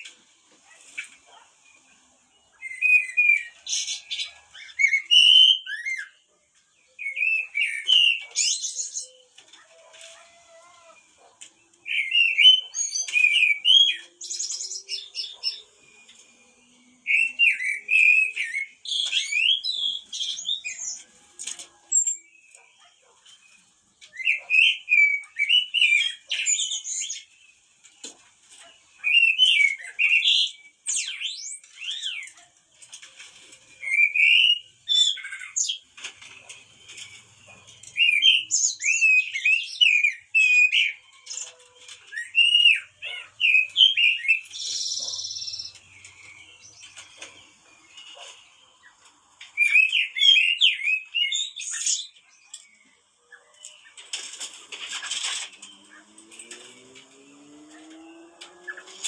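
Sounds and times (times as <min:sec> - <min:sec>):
blackbird singing: 0:00.0 - 0:33.0, 0:33.6 - 0:54.0, 0:55.5 - 0:59.0.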